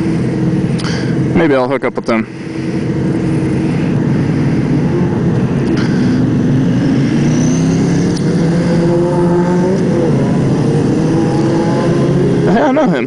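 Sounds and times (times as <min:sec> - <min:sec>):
motorcycle engines running: 0:00.0 - 0:13.0
wind and road noise: 0:00.0 - 0:13.0.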